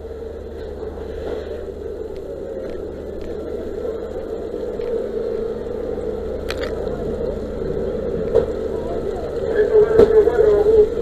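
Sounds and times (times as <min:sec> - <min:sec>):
fire engine pump running: 0:00.0 - 0:11.0.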